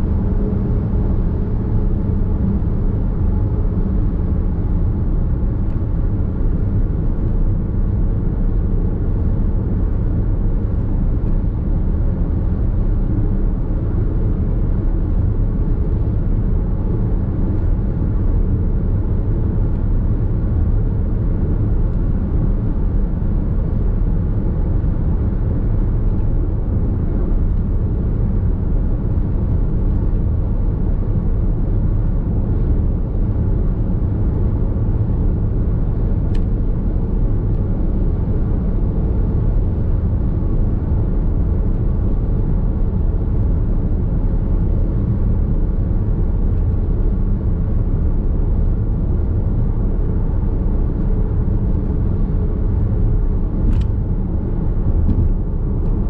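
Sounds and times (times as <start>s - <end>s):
road and tyre noise in car: 0.0s - 56.0s.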